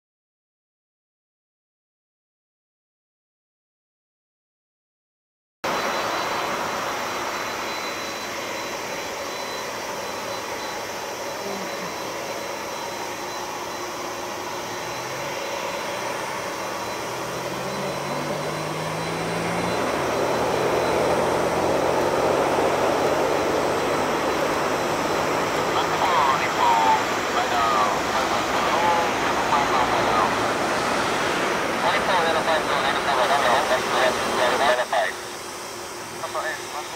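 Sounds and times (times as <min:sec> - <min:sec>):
jet engines roaring: 0:05.7 - 0:36.9.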